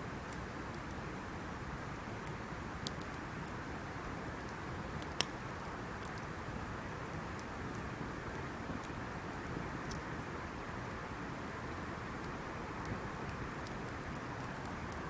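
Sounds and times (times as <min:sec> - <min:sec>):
campfire hissing and crackling: 0:00.0 - 0:15.0.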